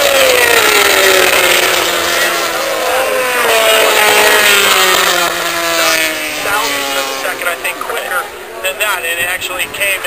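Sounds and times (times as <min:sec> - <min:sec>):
racing motorcycles passing: 0:00.0 - 0:10.0.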